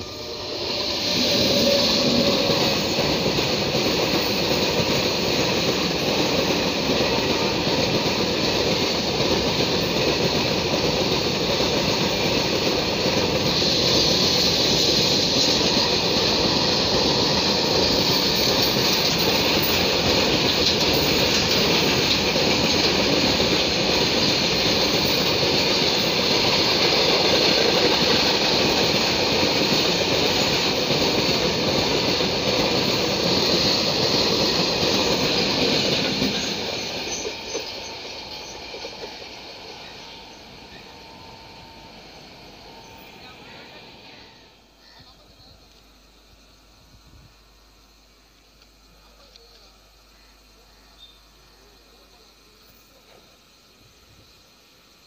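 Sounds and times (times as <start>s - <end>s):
train wheels clattering on rails: 0.0s - 44.5s.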